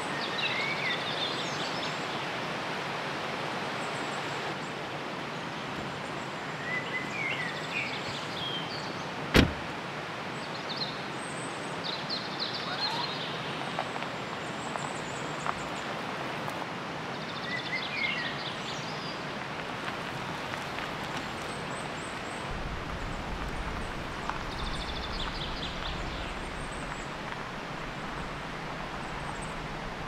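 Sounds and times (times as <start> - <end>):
river rushing: 0.0 - 30.0.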